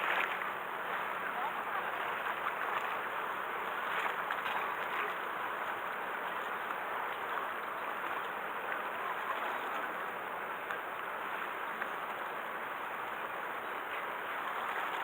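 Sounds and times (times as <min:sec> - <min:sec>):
rushing splashing water: 0:00.0 - 0:15.0.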